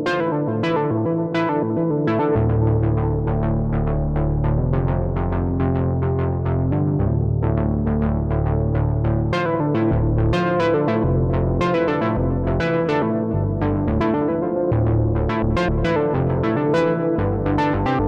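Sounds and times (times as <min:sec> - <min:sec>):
synth bass notes: 0:00.0 - 0:18.0
synthesizer arpeggio of plucked notes: 0:00.0 - 0:18.0.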